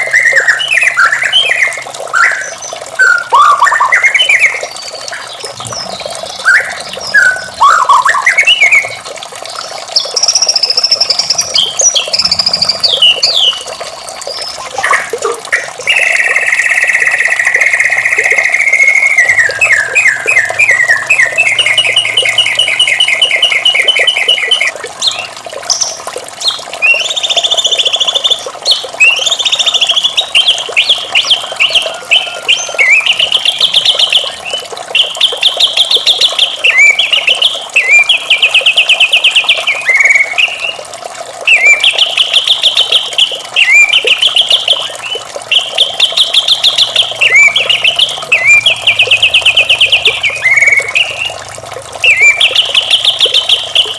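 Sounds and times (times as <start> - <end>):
bird singing trilled phrases: 0.0 - 40.8, 41.4 - 51.4, 52.0 - 53.9.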